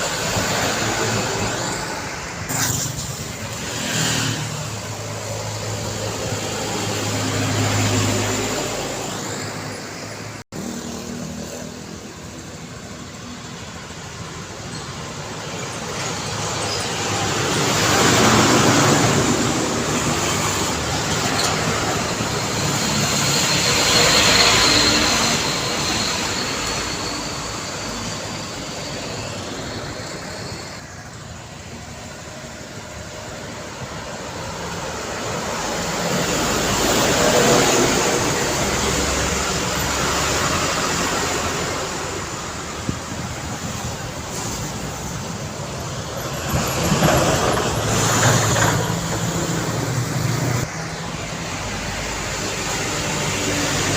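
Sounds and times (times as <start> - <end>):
high steady whine: 0.0 - 47.0
vehicles passing close: 0.0 - 53.9.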